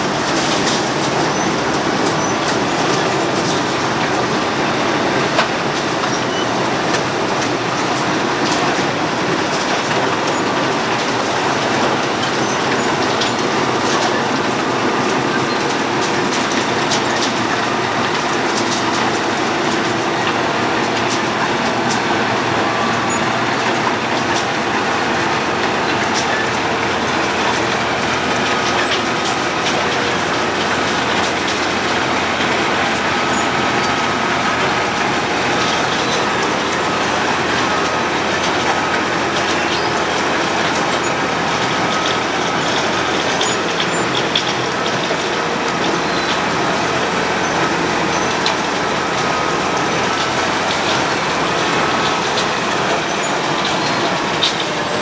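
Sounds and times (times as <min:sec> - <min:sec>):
road milling machine grinding asphalt: 0:00.0 - 0:55.0.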